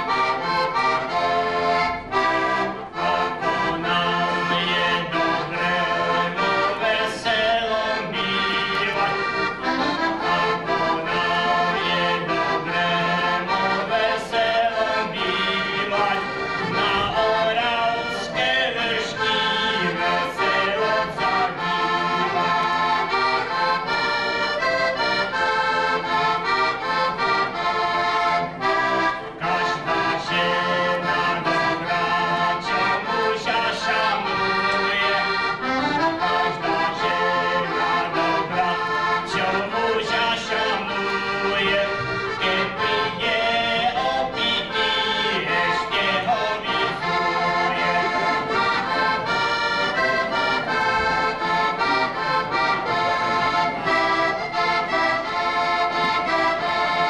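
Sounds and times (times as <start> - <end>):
button accordion playing folk tune: 0.0 - 57.0.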